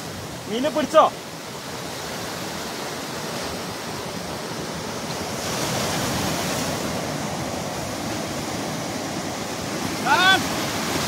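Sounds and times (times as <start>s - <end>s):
surf breaking over boulders: 0.0s - 11.0s.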